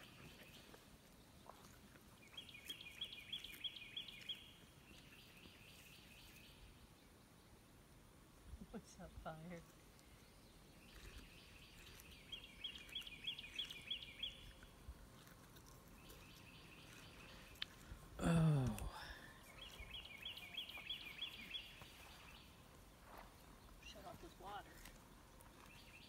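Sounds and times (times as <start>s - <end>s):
bird chirping: 0.0s - 7.8s, 9.9s - 18.0s, 19.1s - 26.0s.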